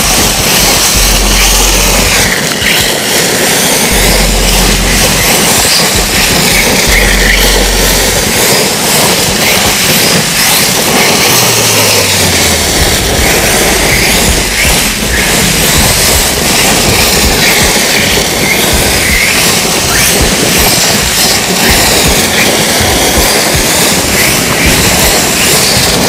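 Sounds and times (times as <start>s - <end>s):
electric motor whine: 0.0s - 26.0s.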